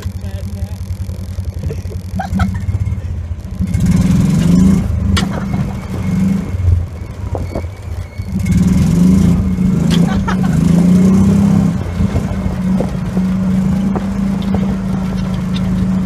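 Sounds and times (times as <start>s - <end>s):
utility vehicle engine rumbling: 0.0s - 16.0s.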